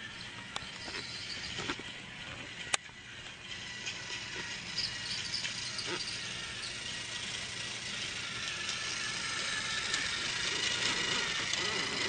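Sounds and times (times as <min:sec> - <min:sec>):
faint high whine: 0:00.0 - 0:12.0
toy train rattling on track: 0:00.0 - 0:12.0.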